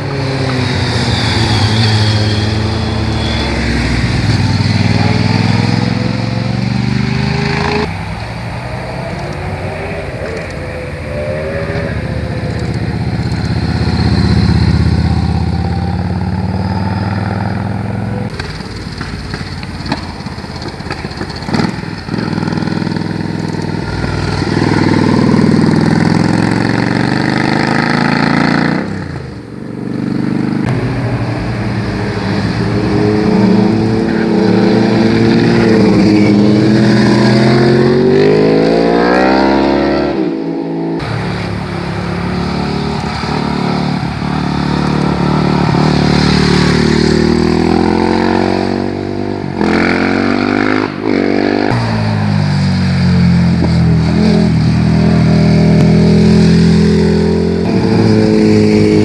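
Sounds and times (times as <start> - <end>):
motorcycle engines: 0.0 - 59.0.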